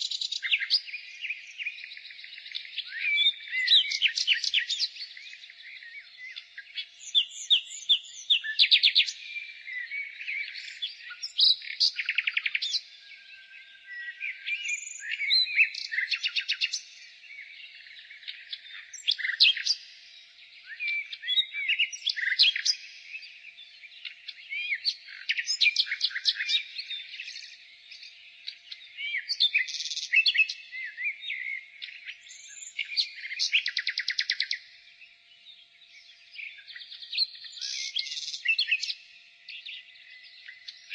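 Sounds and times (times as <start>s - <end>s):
nightingale singing: 0.0s - 40.9s.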